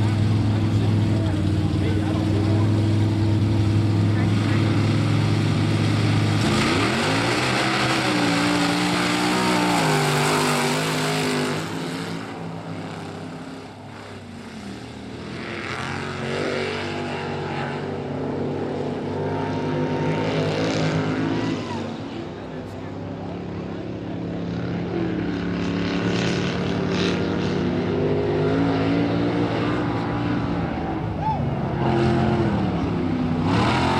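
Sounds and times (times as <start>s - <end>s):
truck engine revving hard: 0.0s - 21.9s, 25.4s - 33.9s.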